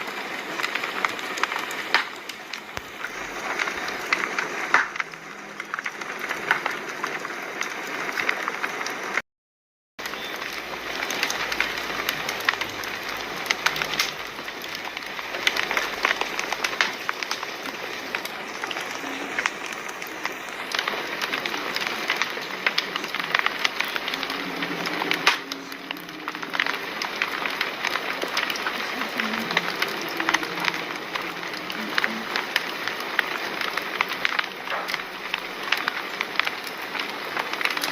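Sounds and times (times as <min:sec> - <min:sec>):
fire crackling and popping: 0:00.0 - 0:09.2, 0:10.0 - 0:37.9.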